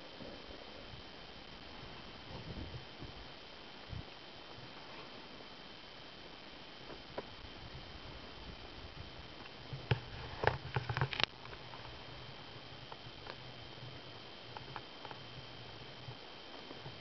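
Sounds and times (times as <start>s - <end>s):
faint high whine: 0.0s - 17.0s
steady hiss: 0.0s - 17.0s.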